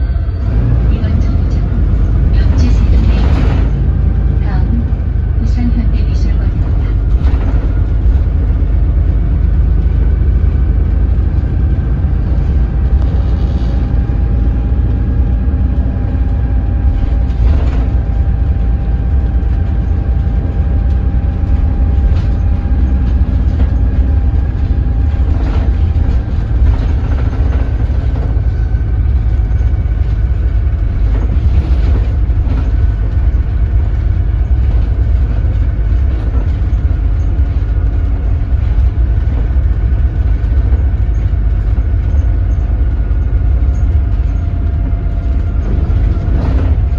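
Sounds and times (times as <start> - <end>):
bus diesel engine rumbling: 0.0 - 46.9.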